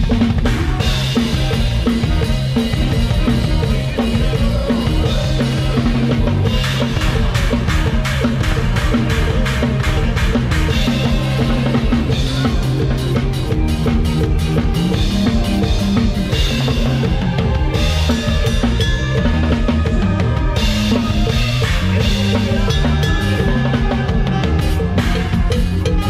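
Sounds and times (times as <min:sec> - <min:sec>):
band music: 0:00.0 - 0:26.0
drum kit beat: 0:00.0 - 0:26.0.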